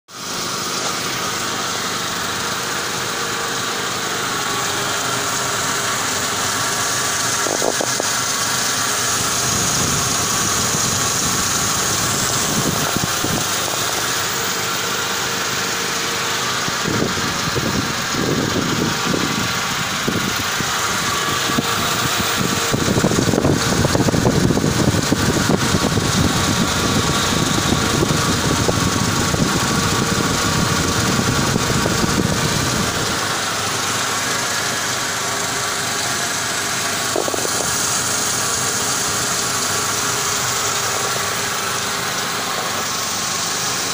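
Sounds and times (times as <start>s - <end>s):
car engine idling: 0.1s - 43.9s.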